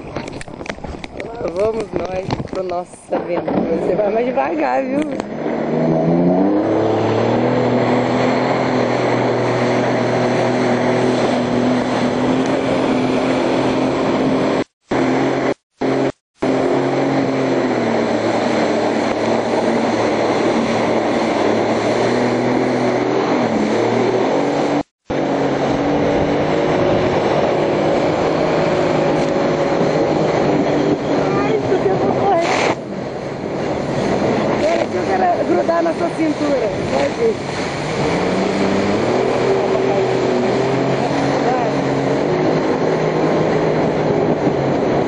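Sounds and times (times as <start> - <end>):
jet ski engine running: 0.0 - 45.0.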